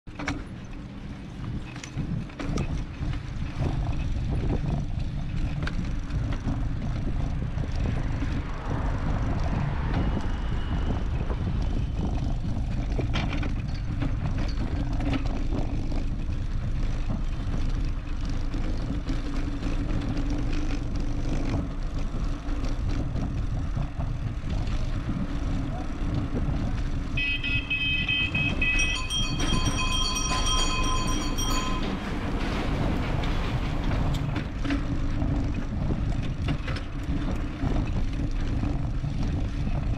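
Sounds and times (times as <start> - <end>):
road traffic: 0.1 - 39.9
wind rumble on microphone: 0.1 - 39.9.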